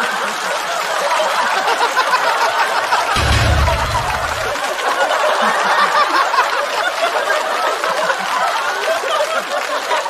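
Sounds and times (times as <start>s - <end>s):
audience applause: 0.0s - 10.0s
audience laughing: 0.0s - 10.0s.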